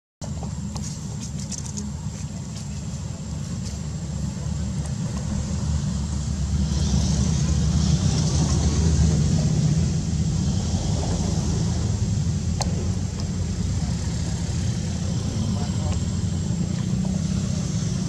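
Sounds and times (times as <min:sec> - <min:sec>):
vehicle engine rumble: 0:00.2 - 0:18.0.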